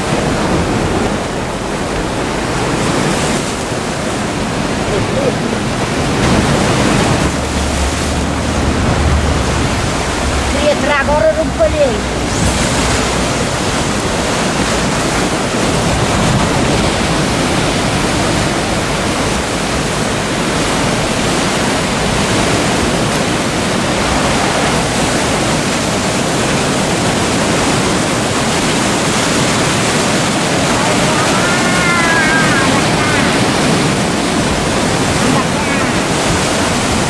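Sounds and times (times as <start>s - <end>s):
surf breaking on rocky shore: 0.0s - 37.0s.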